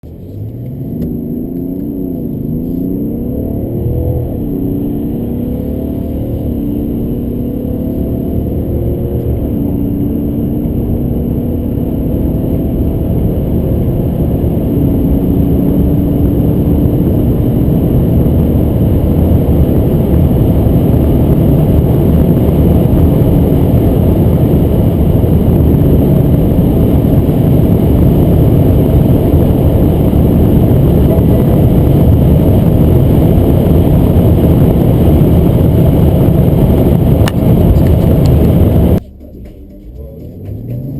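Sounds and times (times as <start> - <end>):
diesel car engine accelerating: 0.0 - 40.9
wind and road noise: 0.0 - 40.9.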